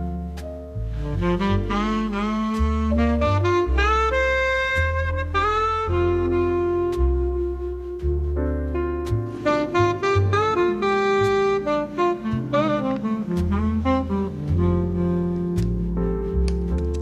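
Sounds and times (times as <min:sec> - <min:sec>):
bass notes: 0:00.0 - 0:17.0
jazz saxophone melody: 0:00.0 - 0:17.0.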